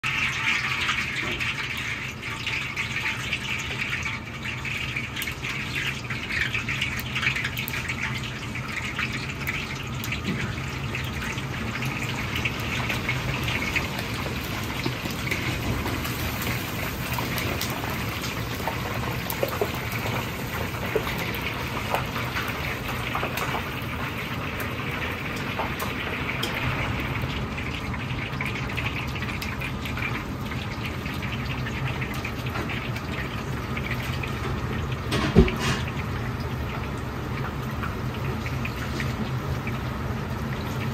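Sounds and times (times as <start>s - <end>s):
oil sizzling in a wok: 0.0s - 40.9s.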